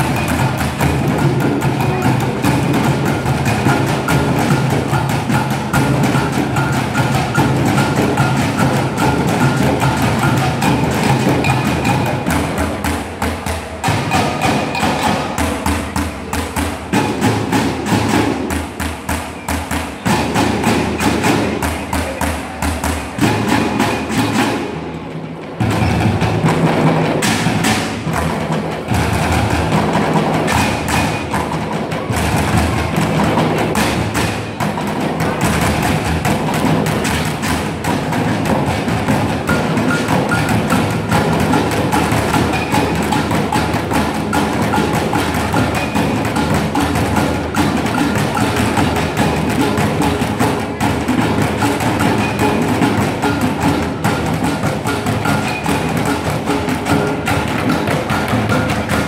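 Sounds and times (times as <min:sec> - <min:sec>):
percussion ensemble drumming: 0:00.0 - 0:59.0
snare drum: 0:00.0 - 0:59.0.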